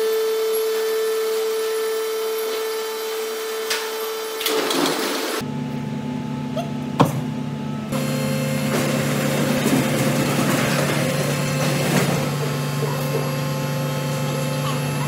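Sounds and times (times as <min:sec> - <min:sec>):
machine motor humming: 0:00.0 - 0:15.0
rough machine working noise: 0:00.0 - 0:15.0.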